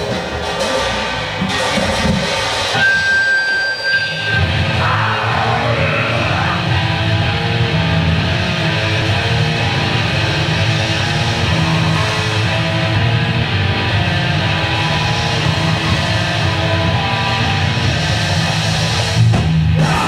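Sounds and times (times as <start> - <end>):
distorted electric guitar: 0.0 - 20.0
grindcore band playing live: 0.0 - 20.0.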